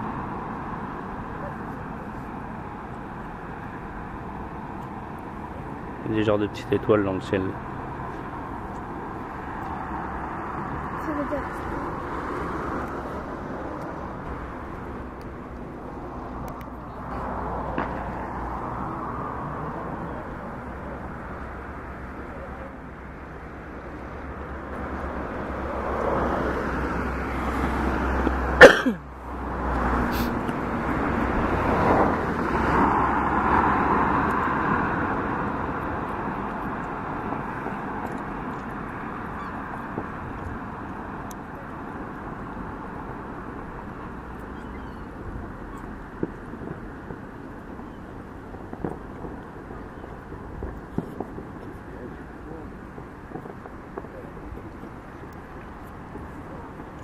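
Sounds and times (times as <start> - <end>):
firework crack: 0.0 - 57.0
outdoor background murmur: 0.0 - 57.0.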